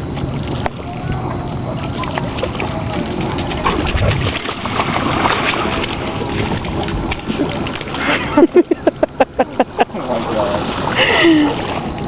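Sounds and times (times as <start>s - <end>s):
dog paws splashing in water: 0.0s - 12.0s.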